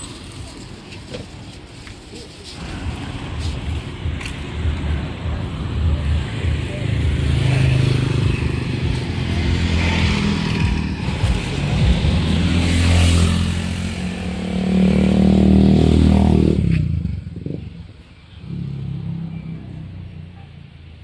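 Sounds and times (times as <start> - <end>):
motorcycles and cars passing: 0.0 - 21.0.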